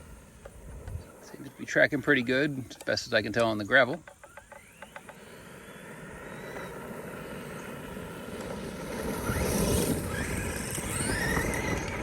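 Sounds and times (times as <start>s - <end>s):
electric motor whine: 0.0s - 12.0s.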